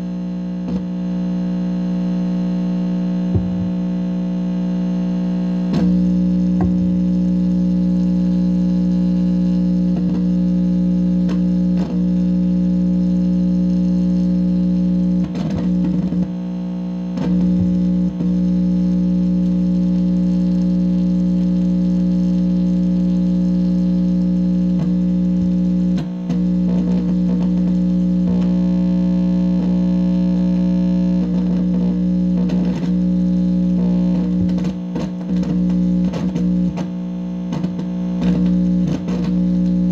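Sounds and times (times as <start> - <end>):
amplifier speaker buzzing: 0.0 - 39.9
speaker crackles: 0.2 - 39.9.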